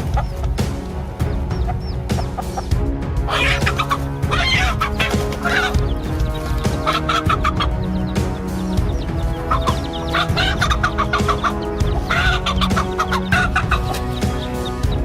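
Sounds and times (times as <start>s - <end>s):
background music with held notes: 0.0s - 15.0s
chickens clucking: 0.0s - 15.0s.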